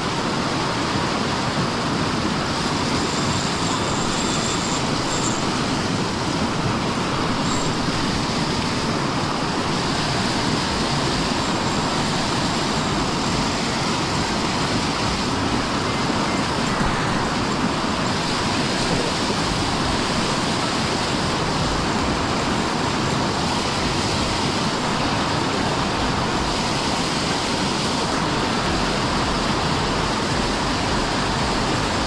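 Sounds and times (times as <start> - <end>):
fast-flowing river water rushing: 0.0 - 32.0.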